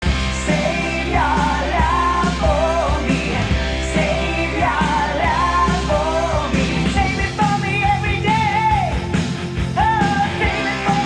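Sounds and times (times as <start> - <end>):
rock song with singing: 0.0 - 11.0.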